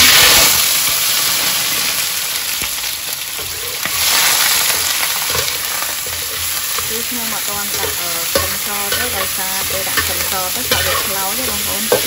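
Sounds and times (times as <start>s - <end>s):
chicken sizzling in a wok: 0.0s - 12.0s.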